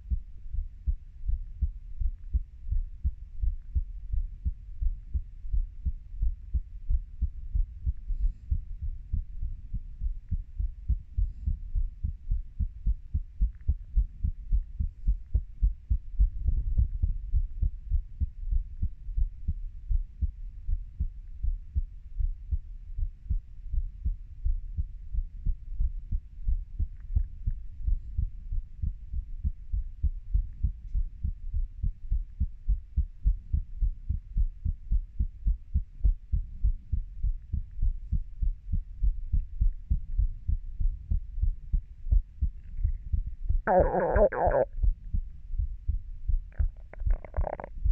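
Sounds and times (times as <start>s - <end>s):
heartbeat: 0.0s - 47.9s.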